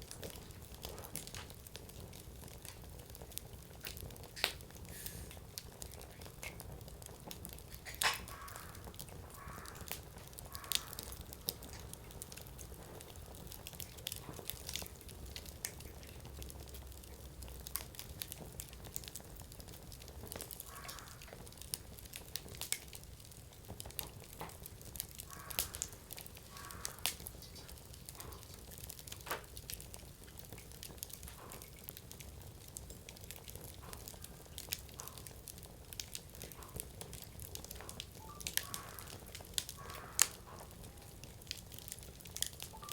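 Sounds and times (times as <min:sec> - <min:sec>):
firewood popping and crackling: 0:00.0 - 0:42.9.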